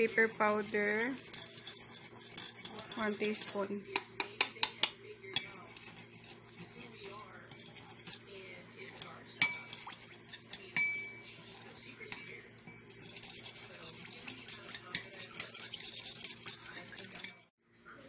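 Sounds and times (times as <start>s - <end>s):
spoon stirring in bowl: 0.0s - 17.5s
spoon clinking against bowl: 0.3s - 8.2s, 8.9s - 11.3s, 12.0s - 17.5s.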